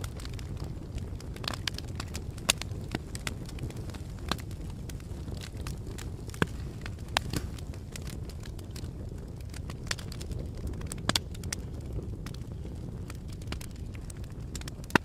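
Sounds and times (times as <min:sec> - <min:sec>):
campfire wood crackling and popping: 0:00.0 - 0:15.0.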